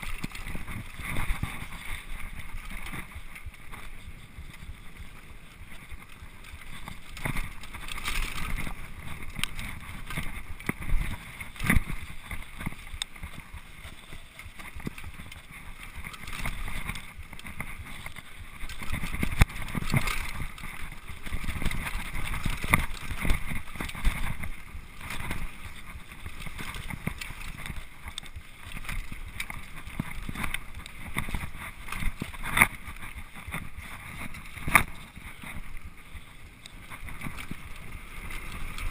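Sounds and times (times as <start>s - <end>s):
bike knocks and rattles: 0.0s - 36.0s
wind and tyre noise: 0.0s - 38.9s.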